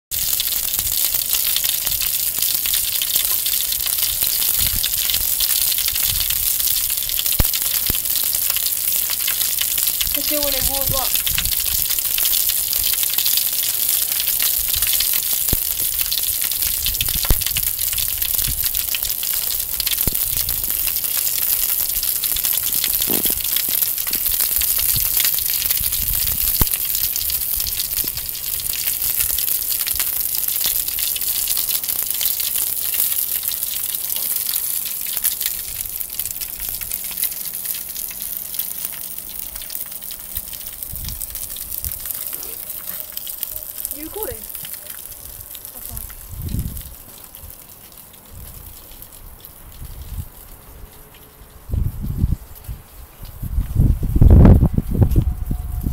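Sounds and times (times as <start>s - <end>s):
sausages sizzling: 0.1s - 51.7s
fat crackling and popping: 0.1s - 54.5s.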